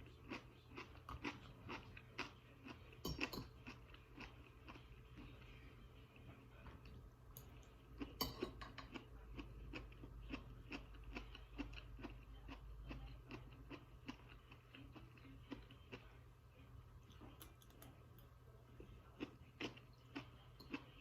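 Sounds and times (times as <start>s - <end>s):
person chewing food: 0.0s - 16.1s, 18.8s - 21.0s.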